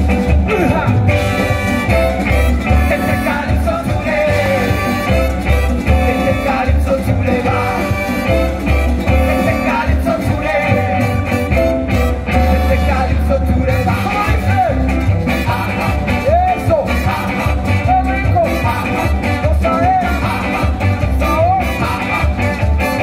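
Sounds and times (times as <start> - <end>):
live band playing: 0.0 - 23.0
person singing: 0.0 - 23.0.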